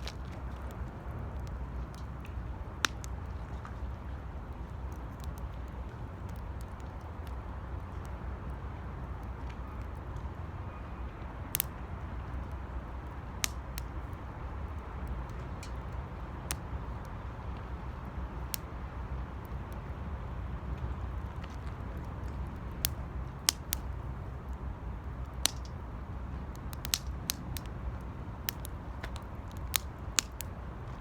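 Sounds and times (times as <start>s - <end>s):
fire crackles and pops: 0.0s - 31.0s
wood fire rumbling: 0.0s - 31.0s.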